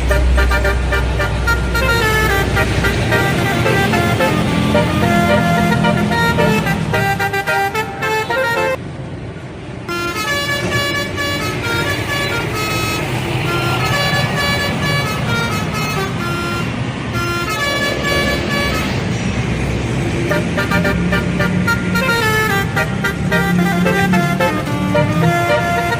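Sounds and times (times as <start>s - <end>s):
bus horns playing melodies: 0.0s - 8.8s, 9.9s - 25.9s
engine and road noise: 0.0s - 25.9s.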